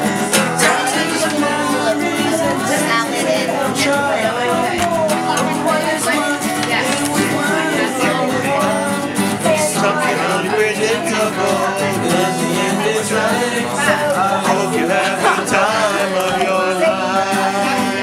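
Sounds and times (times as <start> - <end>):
acoustic guitars strummed: 0.0 - 18.0
young man singing: 0.0 - 18.0.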